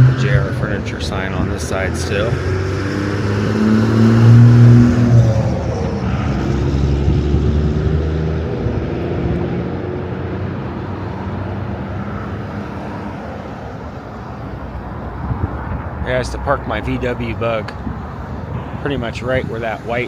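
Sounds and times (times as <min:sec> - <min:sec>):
road traffic noise: 0:00.0 - 0:20.0
vehicle engine humming: 0:00.0 - 0:20.0.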